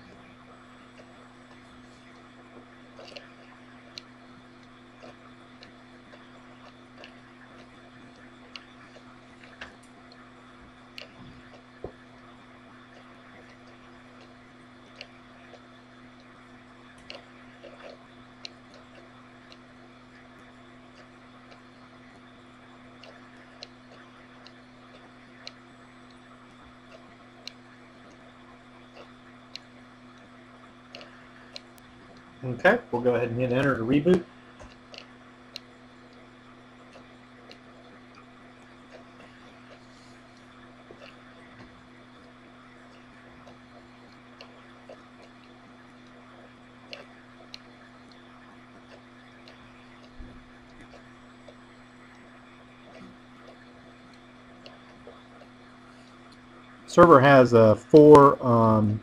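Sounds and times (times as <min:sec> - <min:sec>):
faint clicks and ticks: 0:00.0 - 0:58.8
low room hum: 0:00.0 - 0:59.0.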